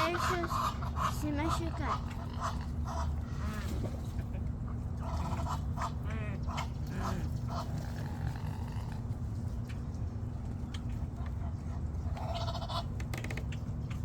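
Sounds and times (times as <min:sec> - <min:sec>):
ducks quacking: 0:00.0 - 0:09.3, 0:10.5 - 0:13.1
steady low hum: 0:00.0 - 0:14.0.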